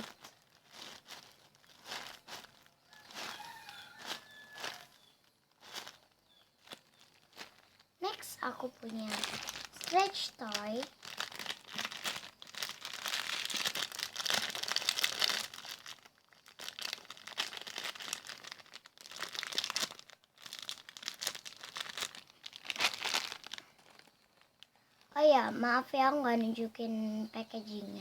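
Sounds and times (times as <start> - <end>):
plastic crinkling and rustling: 0.0 - 25.2.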